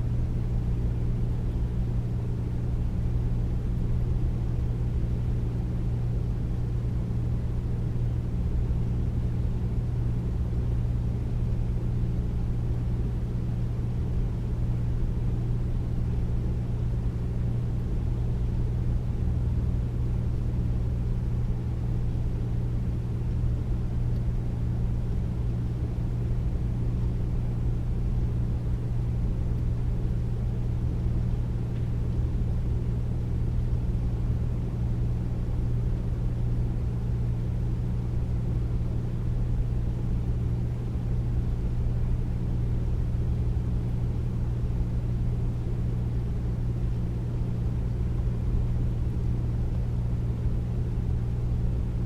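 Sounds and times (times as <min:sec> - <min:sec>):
air conditioner running: 0:00.0 - 0:52.0.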